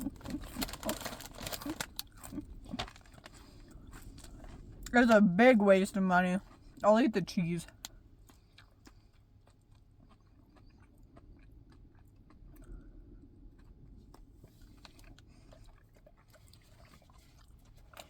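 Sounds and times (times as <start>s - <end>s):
person chewing food: 0.0s - 5.2s, 6.4s - 6.9s, 7.6s - 18.0s.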